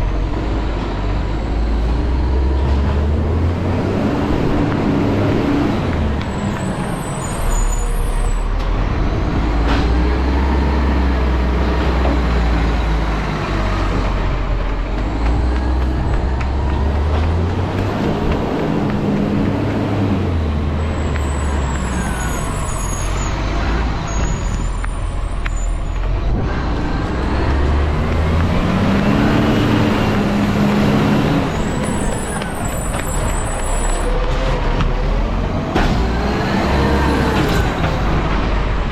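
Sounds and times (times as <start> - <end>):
garbage truck engine revving: 0.0 - 38.9.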